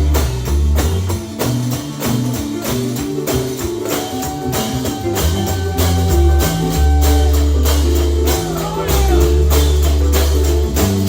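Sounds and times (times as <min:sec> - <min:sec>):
bass notes: 0:00.0 - 0:11.0
gospel band playing: 0:00.0 - 0:11.0
tambourine struck: 0:00.0 - 0:11.0.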